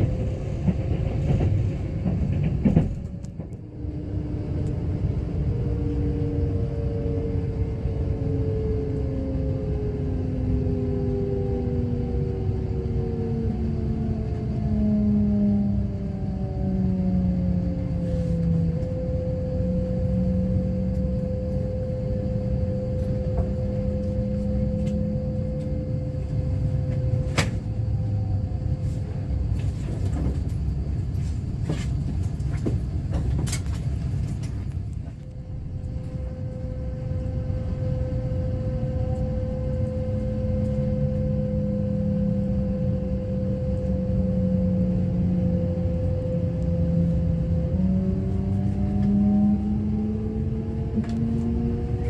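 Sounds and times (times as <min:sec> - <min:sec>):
train motor whine: 0:00.0 - 0:52.0
train rumble: 0:00.0 - 0:52.0.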